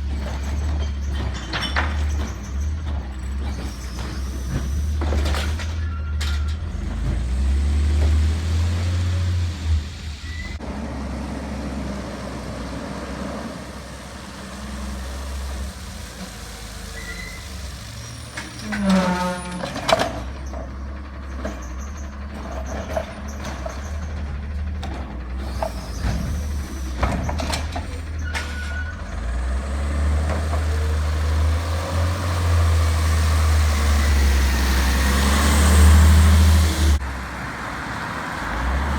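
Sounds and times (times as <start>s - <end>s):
truck engine low rumble: 0.0s - 38.9s.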